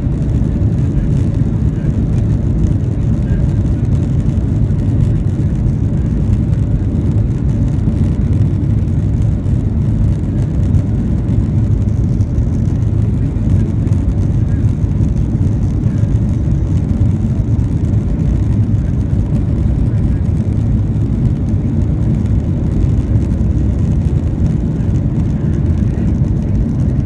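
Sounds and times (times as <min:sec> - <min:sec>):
faint hum: 0:00.0 - 0:27.0
jet engines low rumble: 0:00.0 - 0:27.0.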